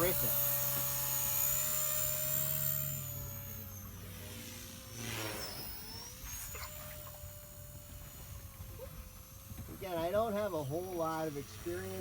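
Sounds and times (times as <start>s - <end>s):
rc helicopter motor and rotors whining: 0.0s - 12.0s.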